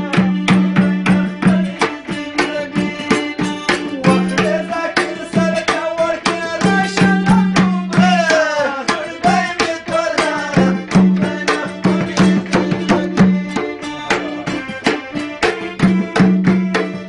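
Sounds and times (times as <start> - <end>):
hand drum beating: 0.0 - 17.0.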